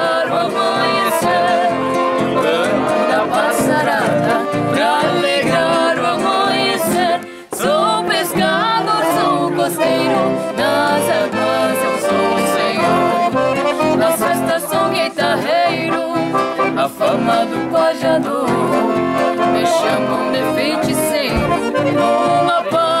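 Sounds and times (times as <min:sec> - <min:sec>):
accordion folk music: 0:00.0 - 0:23.0
acoustic guitar: 0:00.0 - 0:23.0
woman singing: 0:00.0 - 0:23.0.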